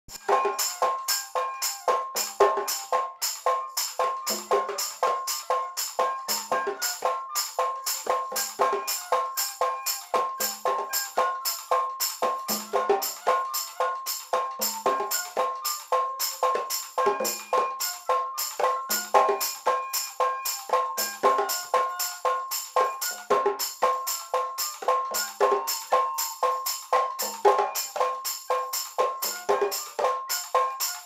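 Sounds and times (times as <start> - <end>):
ringing pitched tone: 0.2 - 31.0.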